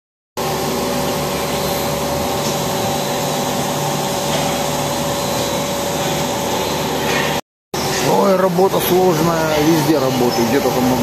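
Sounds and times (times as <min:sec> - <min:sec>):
constant machine whine: 0:00.4 - 0:11.0
machinery droning: 0:00.4 - 0:11.0.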